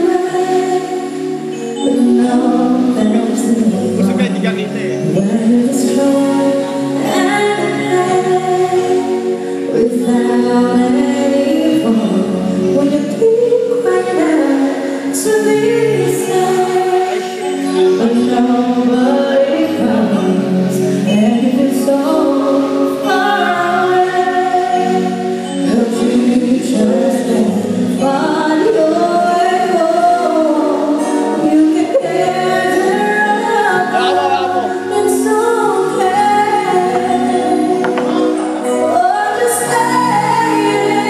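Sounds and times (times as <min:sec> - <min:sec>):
female backing vocals: 0:00.0 - 0:04.1, 0:05.0 - 0:41.0
woman singing pop ballad: 0:00.0 - 0:04.2, 0:05.0 - 0:41.0
live band playing: 0:00.0 - 0:13.1, 0:13.9 - 0:41.0.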